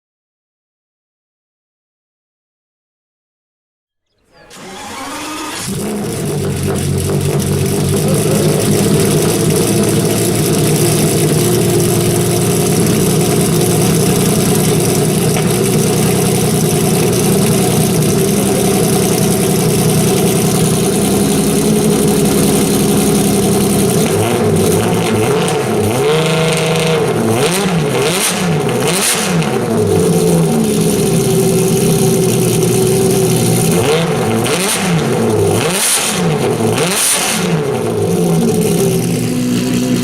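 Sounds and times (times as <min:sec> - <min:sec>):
car engine starting and idling: 0:04.2 - 0:40.0.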